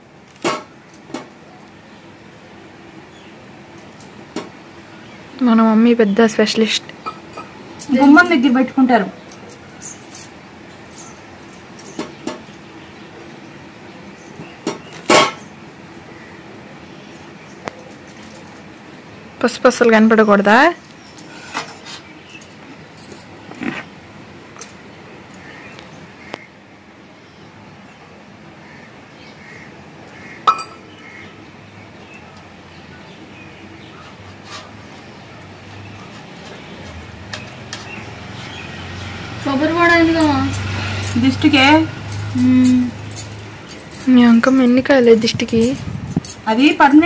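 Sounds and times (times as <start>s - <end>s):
low background noise: 0.0s - 47.0s.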